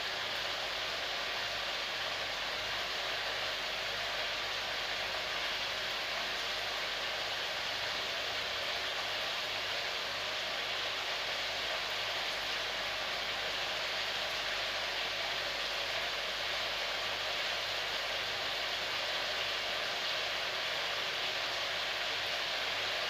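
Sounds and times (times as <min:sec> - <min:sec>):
food simmering hiss: 0:00.0 - 0:23.0.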